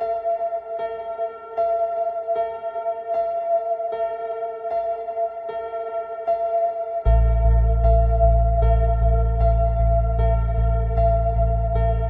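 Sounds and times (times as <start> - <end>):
ambient bell-like music: 0.0 - 12.0.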